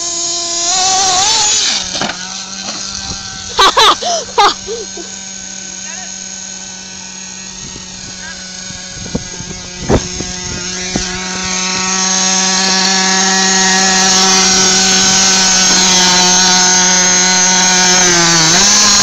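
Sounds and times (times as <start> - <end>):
high-pitched rc truck motor: 0.0 - 19.0.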